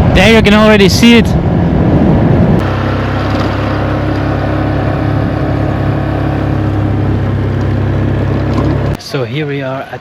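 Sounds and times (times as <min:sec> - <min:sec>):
engine running with low rumble: 0:00.0 - 0:09.0.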